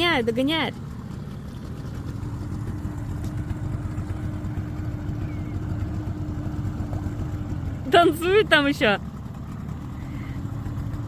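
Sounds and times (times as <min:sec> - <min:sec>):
outboard boat motor running: 0:00.0 - 0:11.0.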